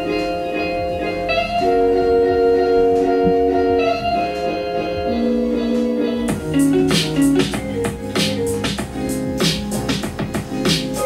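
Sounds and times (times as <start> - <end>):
guitar playing chords: 0.0 - 11.0.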